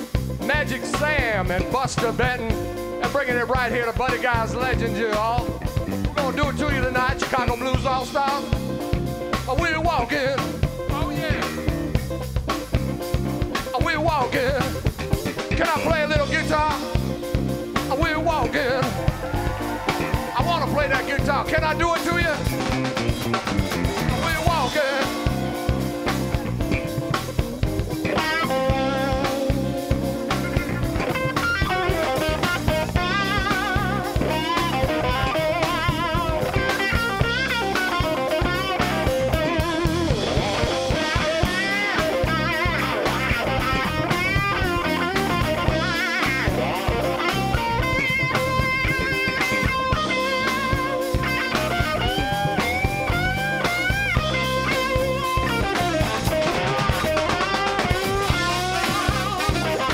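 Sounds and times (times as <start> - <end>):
electric blues guitar solo: 0.0 - 59.9
live band with drums: 0.0 - 59.9.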